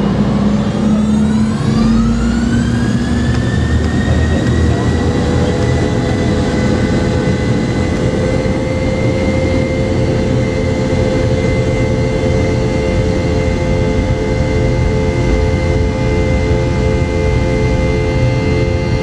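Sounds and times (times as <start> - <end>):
heavy low rumble: 0.0 - 18.2
jet engine whine: 0.0 - 19.0.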